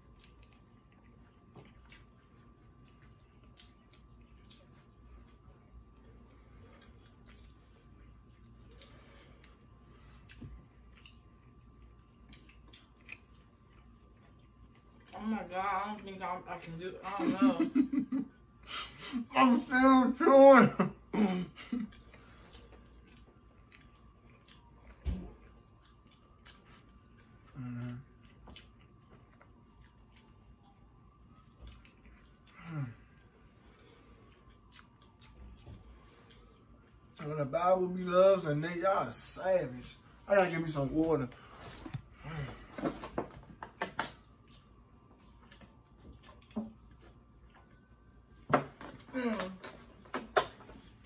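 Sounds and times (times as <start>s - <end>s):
people chewing food: 0.0s - 19.3s, 20.7s - 51.0s.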